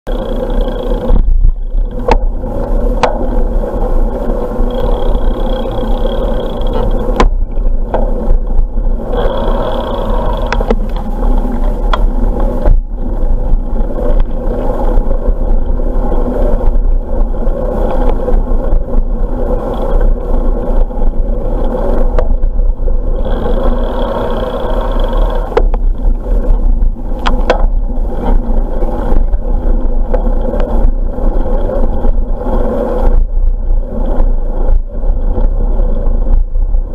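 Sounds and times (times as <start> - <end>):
sharp clicks and rattles: 0.1 - 36.9
tyres rolling on asphalt: 0.1 - 36.9
wind on microphone: 0.1 - 36.9.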